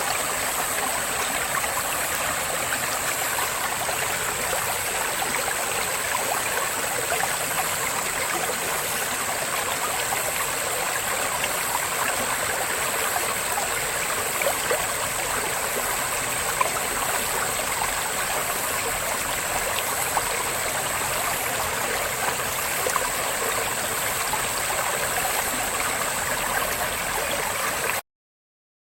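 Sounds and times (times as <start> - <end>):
cicada drone: 0.0 - 27.9
brook water trickling: 0.0 - 28.0.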